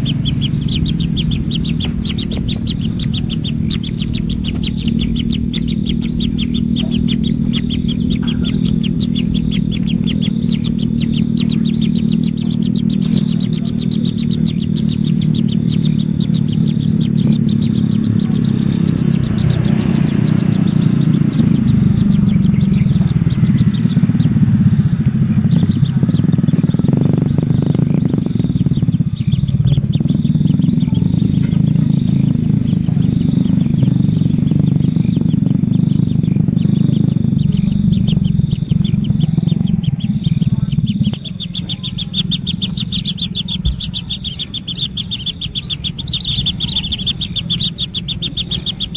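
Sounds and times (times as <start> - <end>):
small birds chirping: 0.0 - 48.9
steady low rumble: 0.0 - 48.9.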